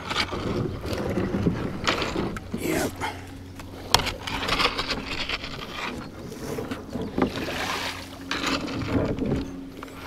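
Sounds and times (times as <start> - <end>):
pedal drive humming: 0.0 - 10.0
water splashing along hull: 0.0 - 10.0.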